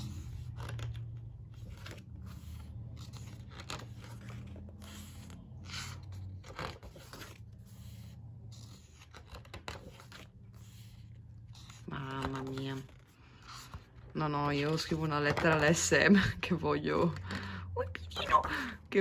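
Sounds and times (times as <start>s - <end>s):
book pages turning: 0.0s - 17.5s.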